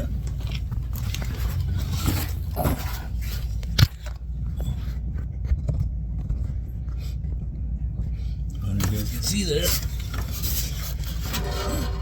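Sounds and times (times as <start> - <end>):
handling clicks and scrapes: 0.0 - 12.0
low steady rumble: 0.0 - 12.0.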